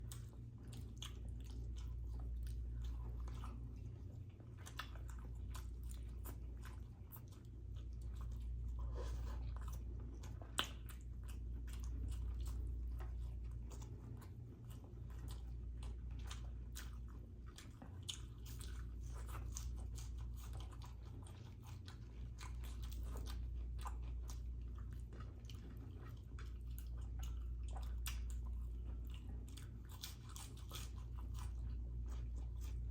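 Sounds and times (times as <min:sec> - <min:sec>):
close chewing and biting: 0:00.0 - 0:32.9.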